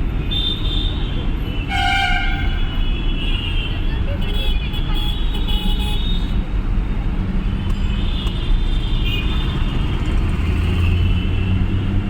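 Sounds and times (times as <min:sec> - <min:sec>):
heavy road traffic: 0:00.0 - 0:12.0
vehicle engine and road noise: 0:00.0 - 0:12.0.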